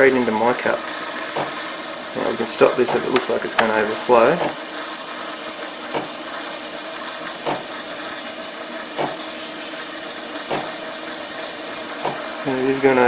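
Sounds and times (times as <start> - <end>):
milk frother pump hum: 0.0 - 13.0.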